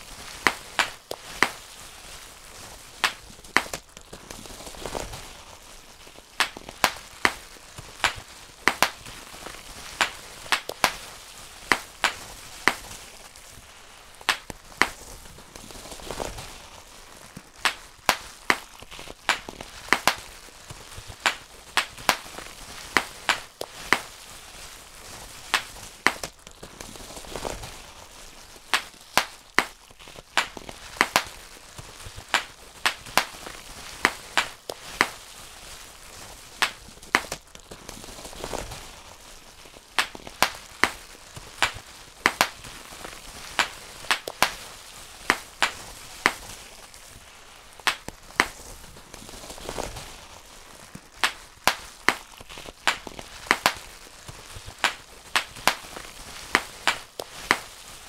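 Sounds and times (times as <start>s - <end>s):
bubble wrap popping: 0.0s - 58.0s
plastic sheet crinkling: 0.0s - 58.0s.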